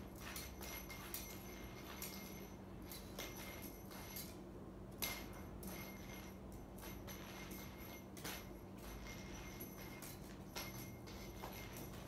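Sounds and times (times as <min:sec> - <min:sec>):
faint high ringing: 0:00.0 - 0:12.0
light clicks and clinks: 0:00.0 - 0:12.0.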